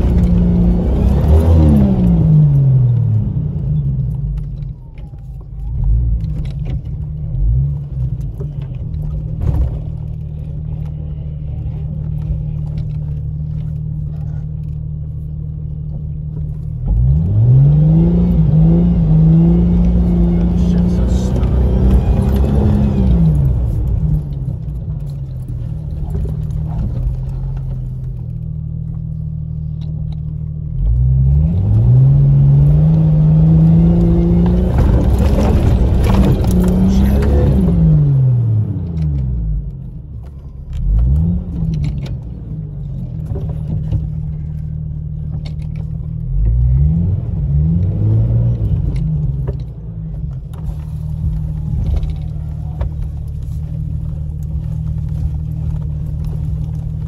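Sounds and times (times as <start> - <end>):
car engine revving under load: 0.0 - 4.6, 15.7 - 57.0.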